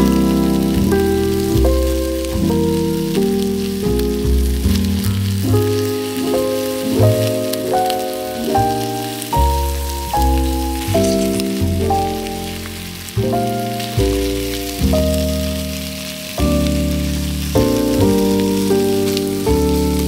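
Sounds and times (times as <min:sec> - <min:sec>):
background music with bass line: 0:00.0 - 0:20.0
chicken sizzling in oil: 0:00.0 - 0:20.0.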